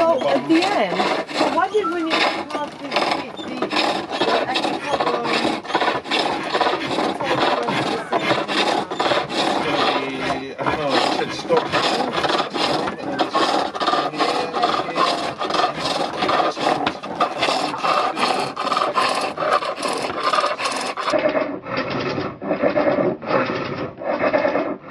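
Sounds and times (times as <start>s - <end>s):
hand tool rasping wood: 0.0s - 24.9s.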